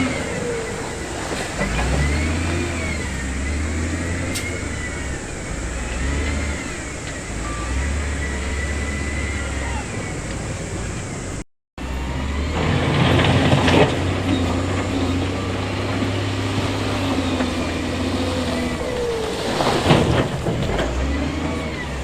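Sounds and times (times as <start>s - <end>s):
diesel earthmoving machinery running: 0.0s - 22.0s.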